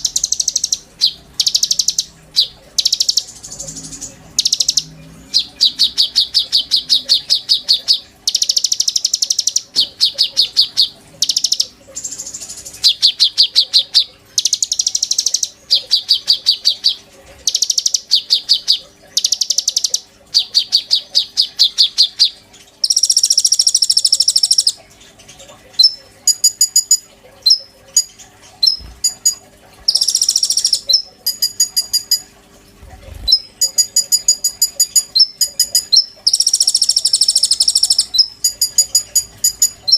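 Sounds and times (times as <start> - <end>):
songbird singing rapid trills: 0.0 - 24.8, 25.8 - 32.2, 33.3 - 39.9.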